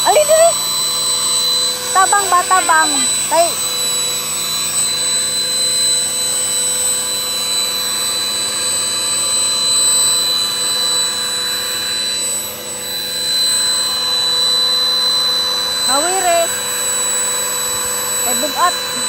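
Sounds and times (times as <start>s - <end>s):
electric air pump whining: 0.0s - 19.0s.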